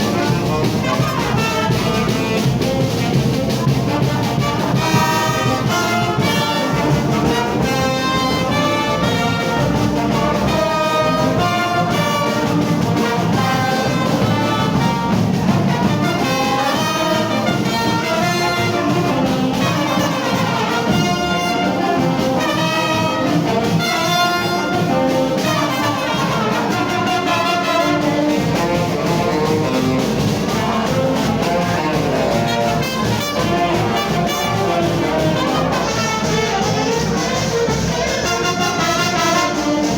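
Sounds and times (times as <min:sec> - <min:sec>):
brass band playing lively tune: 0:00.0 - 0:39.9.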